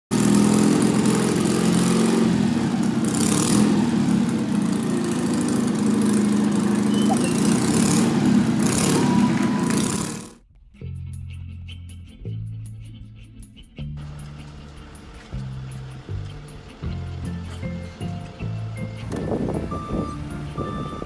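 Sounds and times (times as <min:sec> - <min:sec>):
motorbike engine running loudly: 0:00.1 - 0:10.4, 0:14.0 - 0:21.0.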